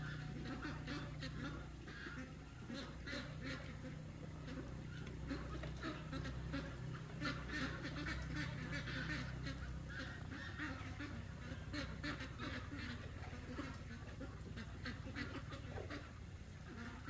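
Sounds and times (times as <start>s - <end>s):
fowl calling: 0.0s - 17.0s.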